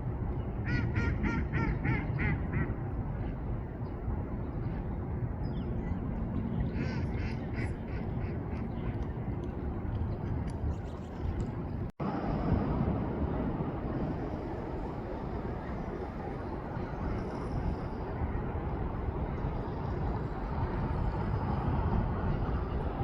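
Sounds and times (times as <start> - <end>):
low rushing background: 2.7 - 23.0.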